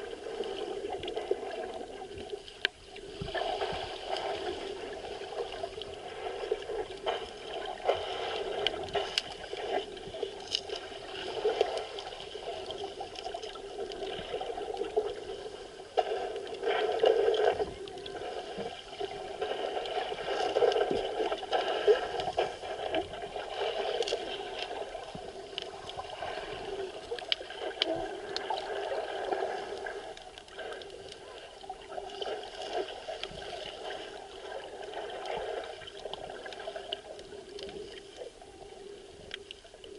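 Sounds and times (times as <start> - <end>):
muffled underwater sea wash: 0.0 - 39.9
small underwater clicks and crackles: 0.0 - 39.9.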